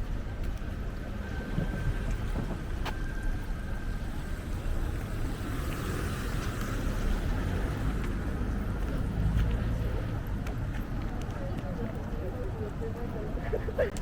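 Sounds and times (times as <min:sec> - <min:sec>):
low rumble of outdoor background: 0:00.0 - 0:14.0.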